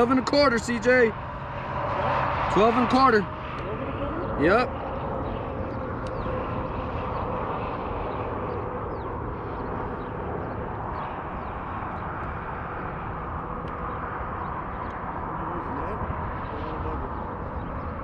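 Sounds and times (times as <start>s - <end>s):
outdoor rumble on open water: 0.0s - 18.0s.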